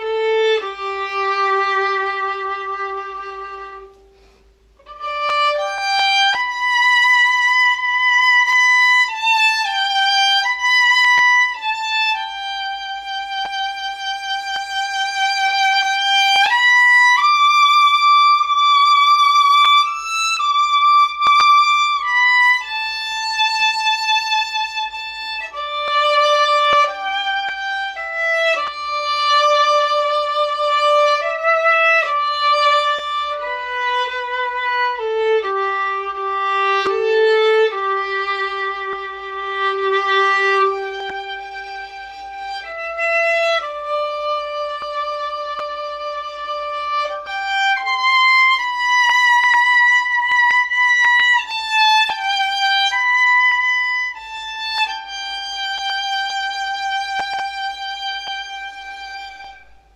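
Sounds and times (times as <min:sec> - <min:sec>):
solo violin melody: 0:00.0 - 0:59.9.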